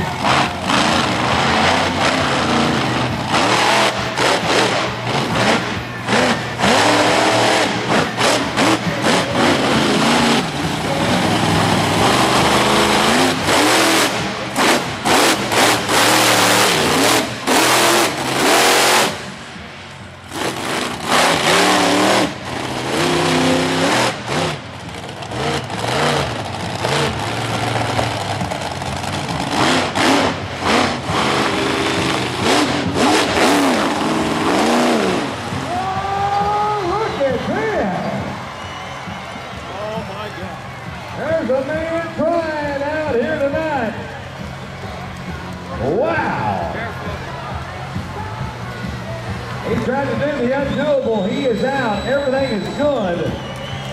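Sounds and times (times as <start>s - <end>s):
monster truck engine revving: 0.0s - 53.9s.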